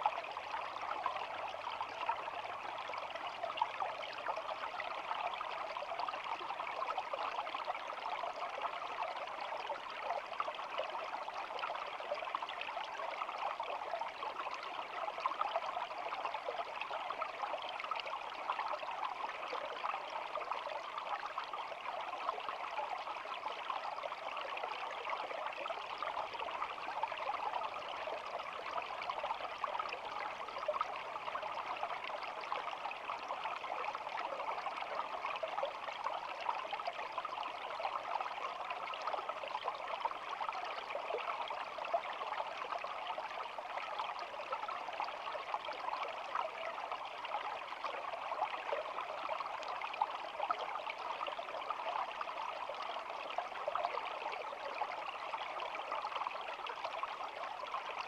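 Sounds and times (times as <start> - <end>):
shallow stream trickling: 0.0 - 58.0.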